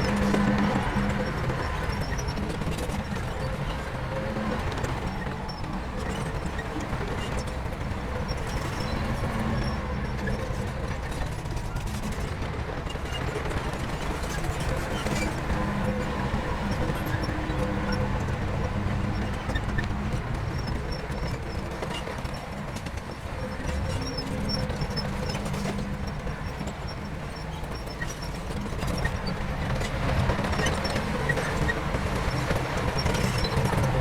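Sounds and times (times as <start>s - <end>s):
diesel machinery rumble: 0.0s - 34.0s.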